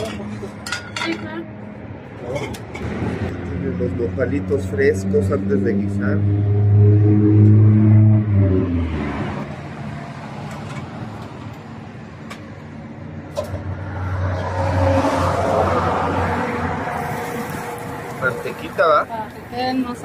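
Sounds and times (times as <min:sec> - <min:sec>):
street noise: 0:00.0 - 0:20.0
vehicle engine humming: 0:00.0 - 0:20.0.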